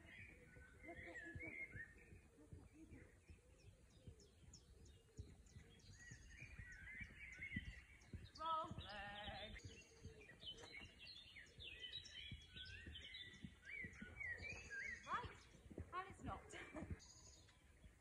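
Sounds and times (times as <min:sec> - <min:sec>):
small birds chirping and warbling: 0:00.0 - 0:18.0.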